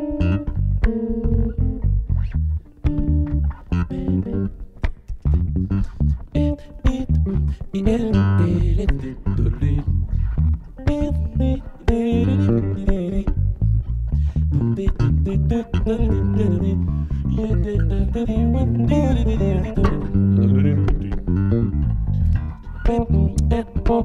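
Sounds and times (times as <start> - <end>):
electric basses playing a groove: 0.0 - 24.0.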